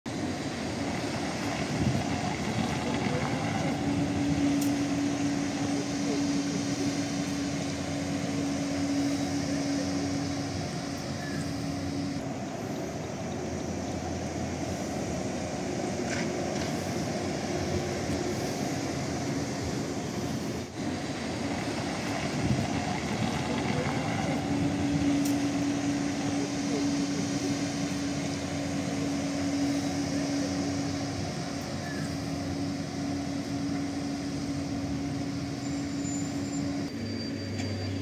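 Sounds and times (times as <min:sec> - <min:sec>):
trolleybus electric hum: 0:00.1 - 0:38.0
tyre and traffic noise: 0:00.1 - 0:38.0.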